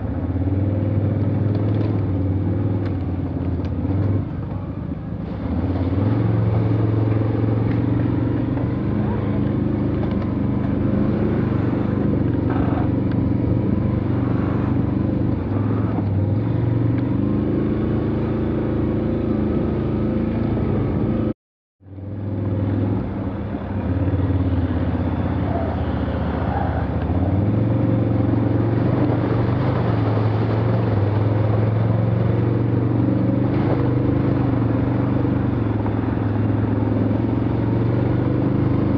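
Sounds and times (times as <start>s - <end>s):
off-road vehicle engine under load: 0.0s - 38.9s.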